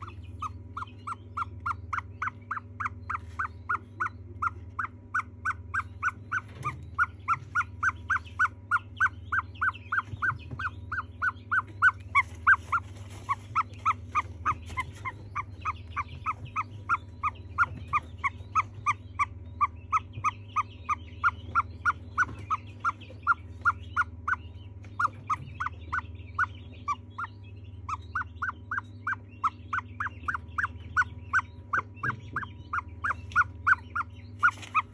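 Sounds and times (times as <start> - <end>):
chick peeping: 0.0 - 34.9
steady low hum: 0.0 - 34.9.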